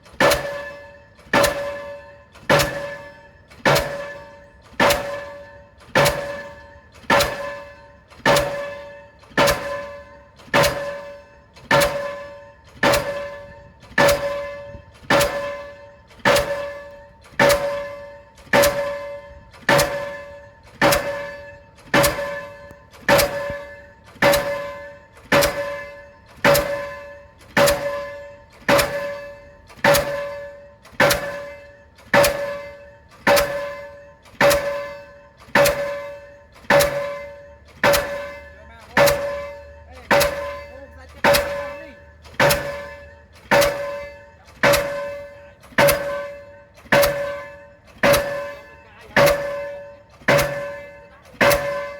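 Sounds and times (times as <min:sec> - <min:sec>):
pile hammer clanging: 0:00.2 - 0:51.9.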